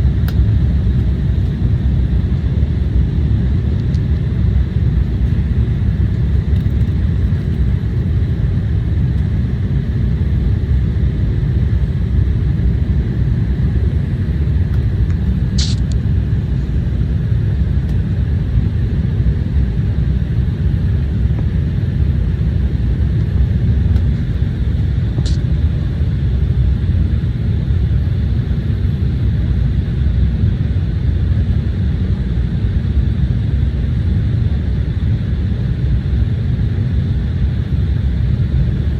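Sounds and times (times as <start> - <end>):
jet cabin engine rumble: 0.0 - 38.9.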